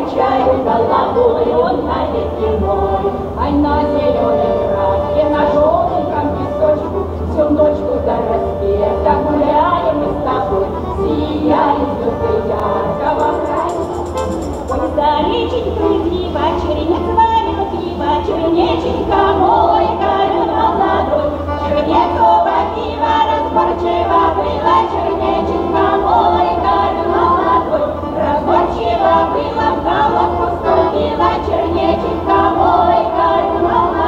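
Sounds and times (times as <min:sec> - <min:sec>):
accordion: 0:00.0 - 0:34.0
women singing folk song together: 0:00.0 - 0:34.0.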